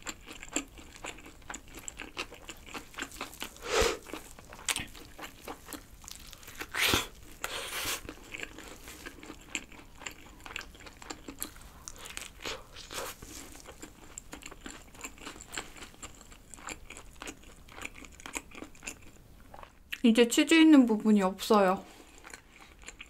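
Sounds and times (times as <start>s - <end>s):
chewing crunchy food: 0.0s - 20.0s, 21.9s - 23.0s.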